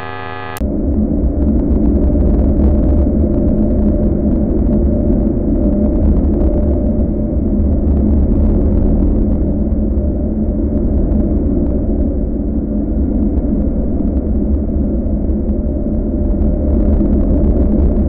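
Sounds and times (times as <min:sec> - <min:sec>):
faint crackle: 0:00.0 - 0:18.0.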